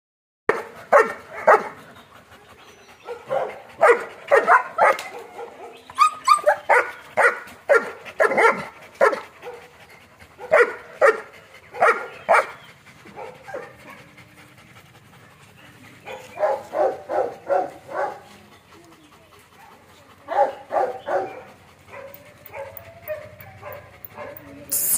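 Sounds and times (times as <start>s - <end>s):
dogs barking: 0.5s - 1.8s, 2.9s - 9.7s, 10.3s - 14.2s, 16.0s - 18.5s, 19.2s - 24.6s.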